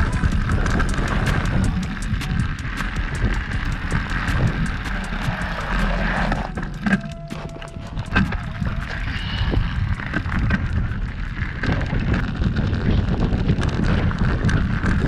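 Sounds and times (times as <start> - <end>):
bike clicks and rattles: 0.0 - 15.0
bike tyres rolling on gravel: 0.0 - 15.0
wind buffeting microphone: 0.0 - 15.0.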